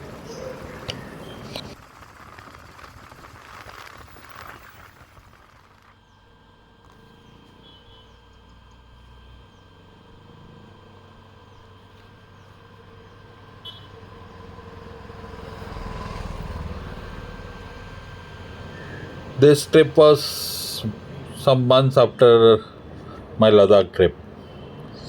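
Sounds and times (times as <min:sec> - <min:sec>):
vehicle road and engine rumble: 0:00.0 - 0:25.0.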